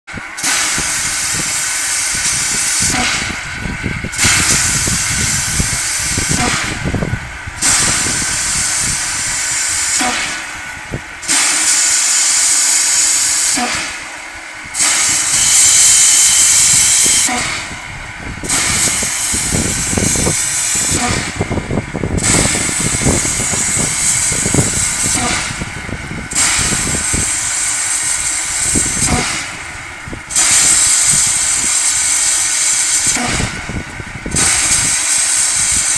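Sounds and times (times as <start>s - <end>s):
steam locomotive hissing: 0.1s - 35.9s.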